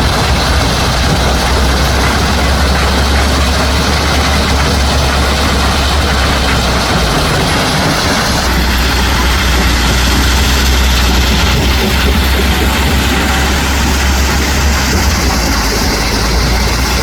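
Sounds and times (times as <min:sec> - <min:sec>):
heavy diesel engine idling: 0:00.0 - 0:17.0.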